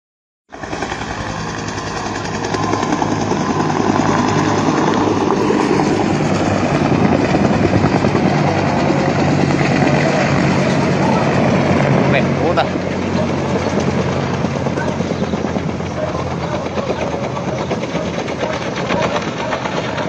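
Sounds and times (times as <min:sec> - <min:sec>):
helicopter rotor chopping: 0:00.5 - 0:20.0.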